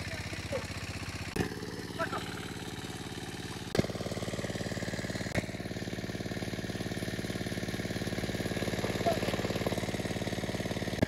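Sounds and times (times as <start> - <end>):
water pump engine running: 0.0 - 11.0.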